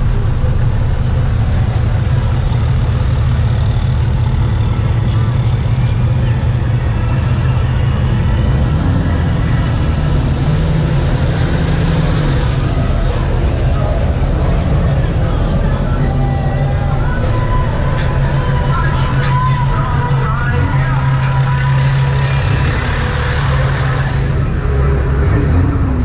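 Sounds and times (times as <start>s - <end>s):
truck engines idling: 0.0s - 26.0s.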